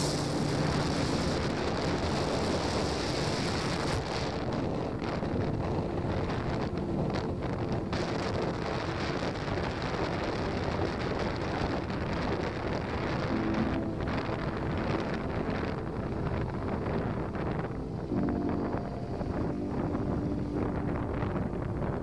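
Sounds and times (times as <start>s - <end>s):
faint engine hum: 0.0s - 22.0s
wind buffeting microphone: 0.0s - 22.0s.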